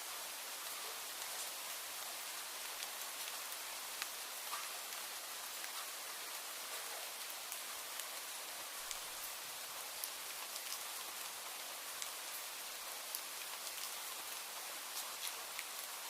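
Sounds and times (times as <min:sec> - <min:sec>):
raindrops ticking on a surface: 0:00.0 - 0:16.0
steady rain falling: 0:00.0 - 0:16.0.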